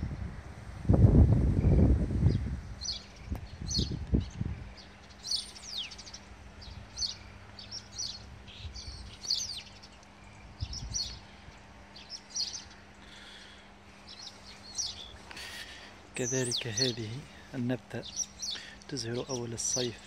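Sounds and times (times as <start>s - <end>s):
small birds chirping: 1.8s - 20.0s.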